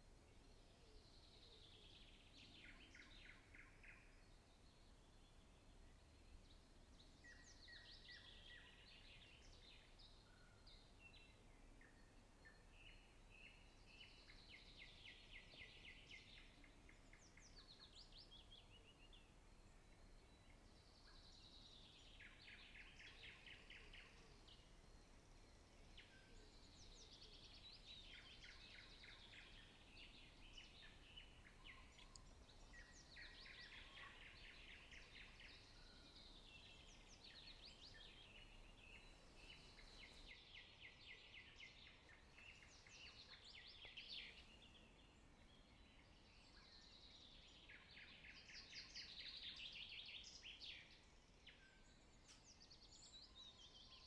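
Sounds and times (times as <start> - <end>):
faint songbird song: 0.0 - 54.0.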